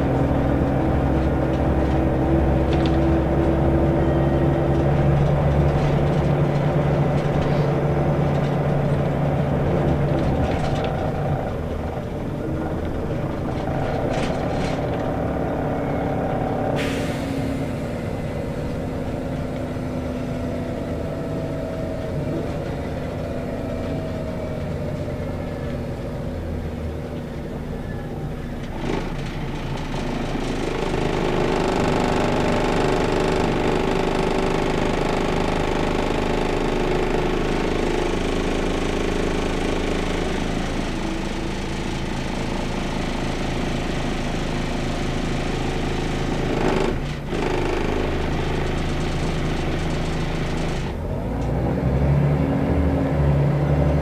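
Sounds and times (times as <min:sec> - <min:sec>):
bus diesel engine driving: 0:00.0 - 0:54.0.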